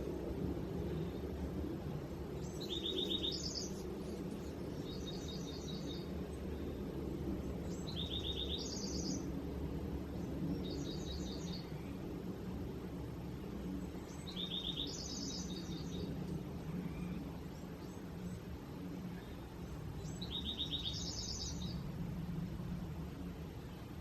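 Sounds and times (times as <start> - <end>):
songbird singing: 0.0 - 24.0
steady low rumble: 0.0 - 24.0.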